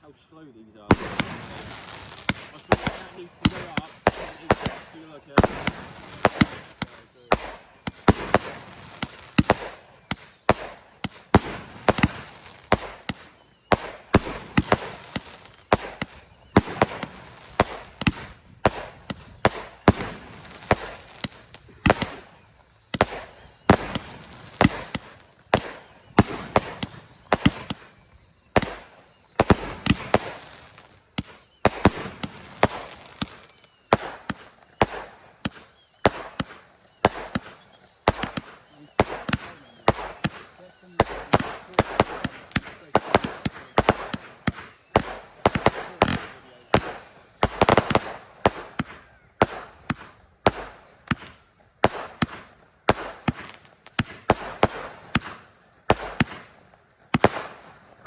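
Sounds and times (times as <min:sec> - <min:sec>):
falling firework whistle: 0:00.0 - 0:56.5
firework bangs: 0:00.8 - 0:58.0.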